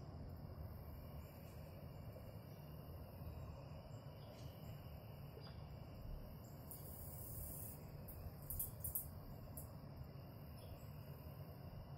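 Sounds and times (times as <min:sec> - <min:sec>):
high insect drone: 0:00.0 - 0:11.9.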